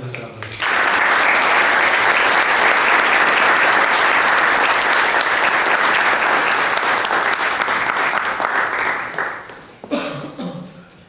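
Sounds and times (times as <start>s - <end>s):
audience applauding: 0.1s - 9.9s.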